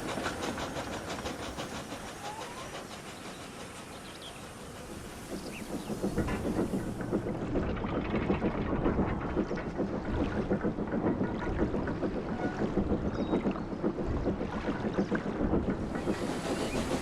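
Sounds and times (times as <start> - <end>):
steam locomotive chuffing: 0.0 - 17.0
wheels rattling on track: 0.0 - 17.0.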